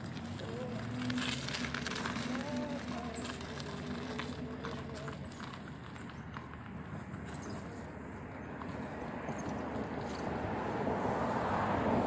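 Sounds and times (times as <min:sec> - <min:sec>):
wheels crunching over gravel: 0:00.0 - 0:12.0.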